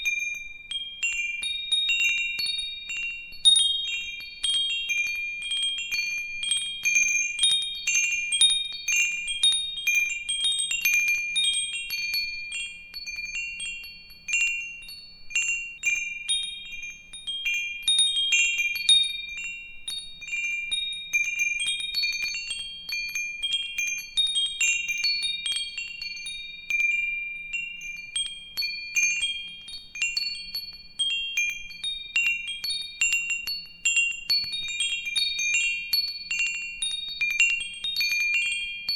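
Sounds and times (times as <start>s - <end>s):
metal wind chimes ringing: 0.0s - 38.9s.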